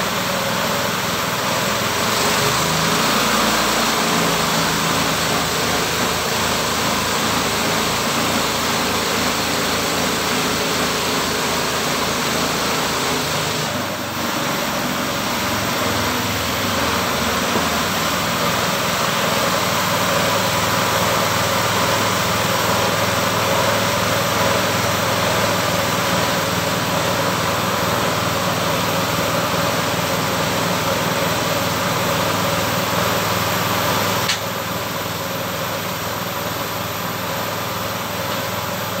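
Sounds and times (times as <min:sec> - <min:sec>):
sawmill engine running: 0:00.0 - 0:39.0.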